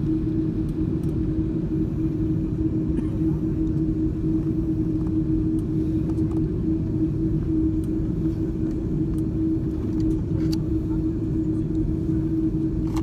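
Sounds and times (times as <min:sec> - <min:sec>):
airliner cabin rumble: 0:00.0 - 0:13.0
constant hum: 0:00.0 - 0:13.0.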